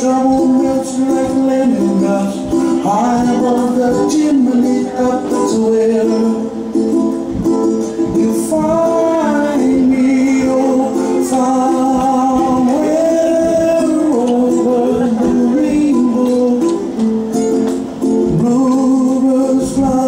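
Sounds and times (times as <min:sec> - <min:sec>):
guitar: 0:00.0 - 0:20.0
person singing: 0:00.0 - 0:20.0.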